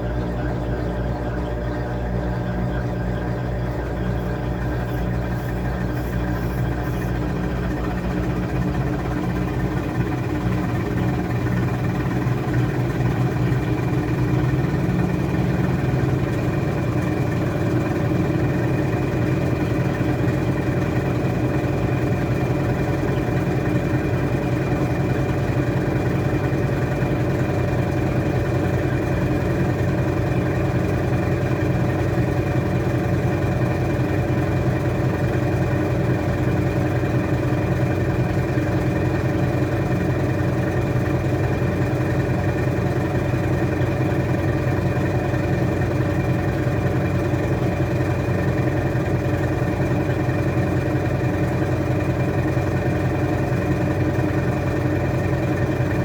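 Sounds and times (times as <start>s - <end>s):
washing machine running: 0.0s - 56.0s.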